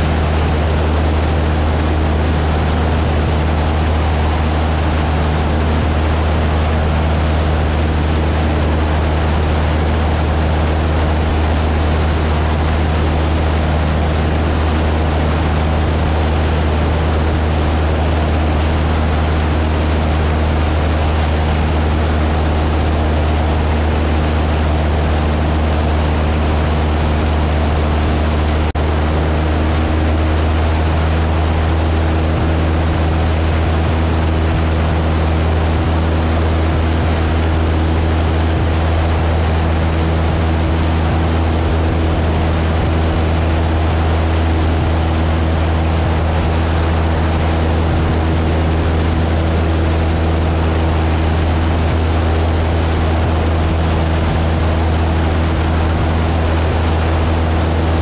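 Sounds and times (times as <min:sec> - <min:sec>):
small plane engine droning: 0:00.0 - 0:58.0.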